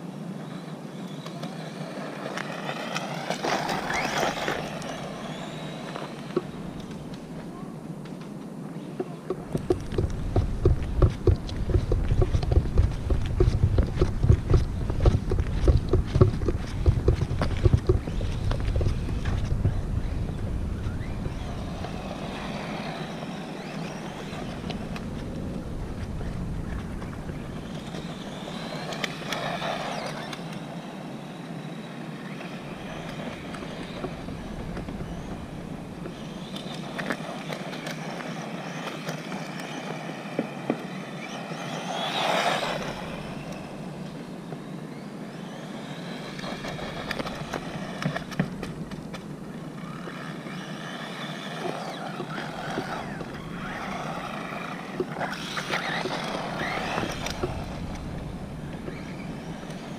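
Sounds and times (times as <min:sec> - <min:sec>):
electric rc car motor whine: 0:00.3 - 0:07.4, 0:09.4 - 0:59.9
tyre noise on asphalt: 0:00.3 - 0:59.9.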